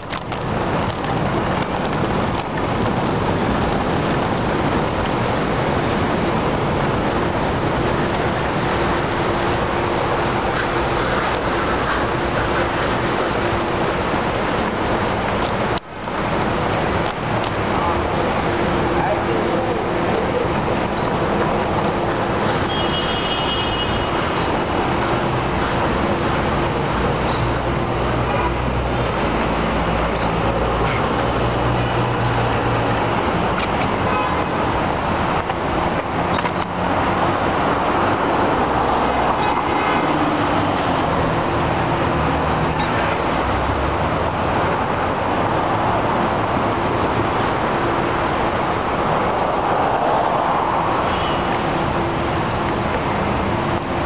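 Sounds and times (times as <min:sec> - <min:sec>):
cars passing: 0:00.0 - 0:54.0
road and wind noise: 0:00.0 - 0:54.0.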